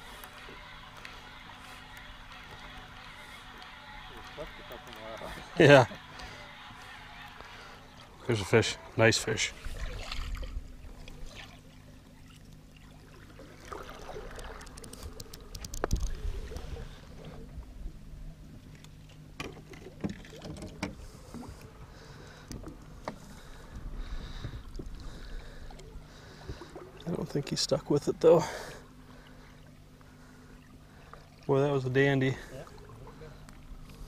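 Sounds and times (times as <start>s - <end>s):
water splashing against boat: 0.0s - 17.8s, 18.6s - 34.0s
steady low hum: 0.0s - 34.0s.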